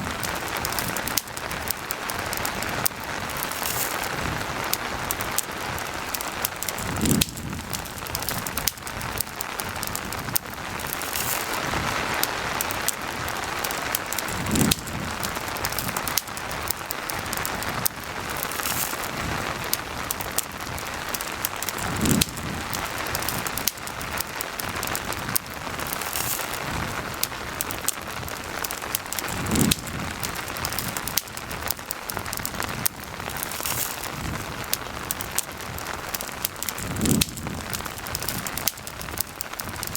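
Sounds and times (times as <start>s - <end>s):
campfire crackling: 0.0s - 39.9s
steady rain falling: 0.0s - 39.9s.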